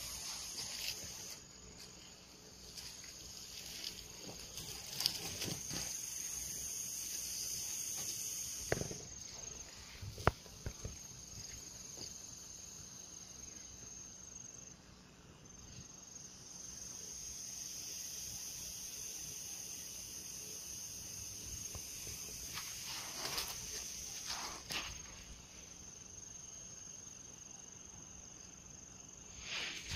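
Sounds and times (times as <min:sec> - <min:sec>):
insects chirring: 0:00.0 - 0:29.9.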